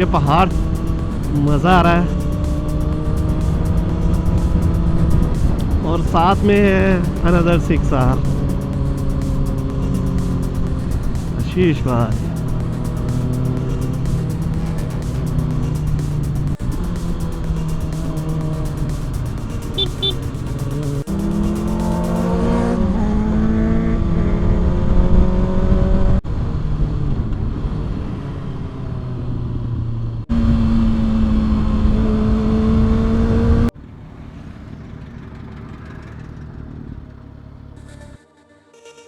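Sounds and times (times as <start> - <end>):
motorcycle engine accelerating: 0.0 - 38.2.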